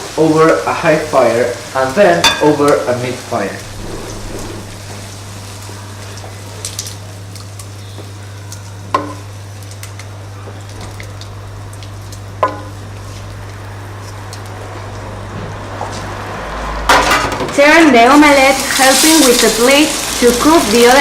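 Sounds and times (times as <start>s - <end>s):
omelette sizzling in a pan: 0.0s - 14.6s, 18.0s - 21.0s.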